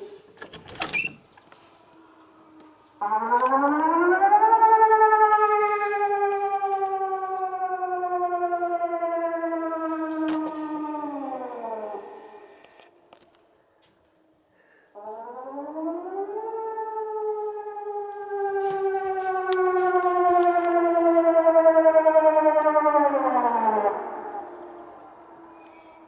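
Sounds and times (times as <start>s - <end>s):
warning siren with slow pulsing: 1.6s - 13.4s, 14.9s - 26.0s.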